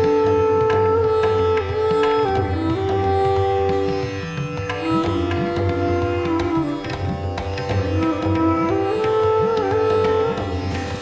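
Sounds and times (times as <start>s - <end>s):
plucked-string melody: 0.0s - 11.0s.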